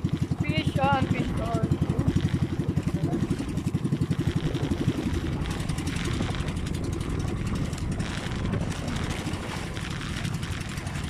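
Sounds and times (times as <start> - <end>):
boat engine chugging: 0.0 - 11.0
wind and water: 0.0 - 11.0.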